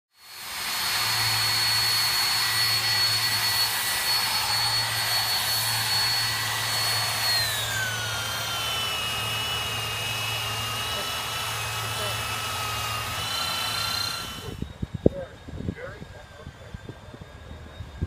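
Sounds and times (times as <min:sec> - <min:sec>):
power tool whining on wood: 0:00.1 - 0:18.0
low hum: 0:00.4 - 0:18.0.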